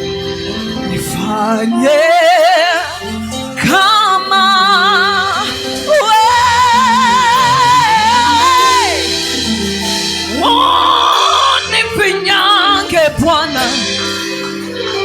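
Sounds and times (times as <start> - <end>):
sustained instrumental backing: 0.0 - 15.0
worship singing with vibrato: 0.0 - 15.0.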